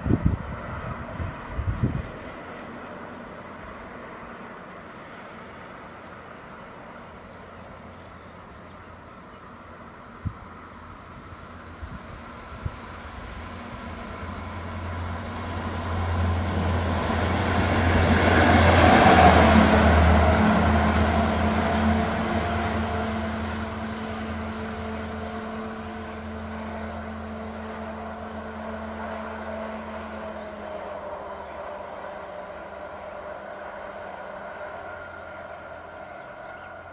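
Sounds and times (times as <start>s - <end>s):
train passing by: 0.0s - 36.9s.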